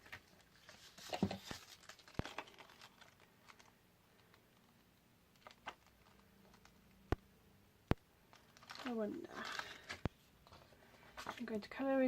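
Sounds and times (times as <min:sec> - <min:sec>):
paper and plastic rustling: 0:00.0 - 0:06.9, 0:08.3 - 0:11.7.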